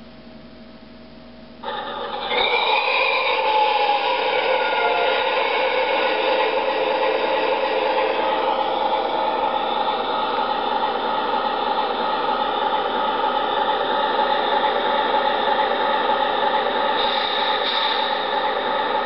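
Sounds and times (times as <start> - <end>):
model locomotive diesel idle sound: 1.6 - 19.0.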